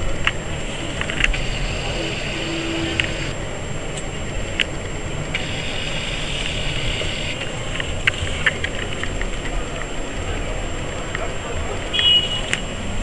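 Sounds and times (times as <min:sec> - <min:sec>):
crowded hall background din: 0:00.0 - 0:13.0.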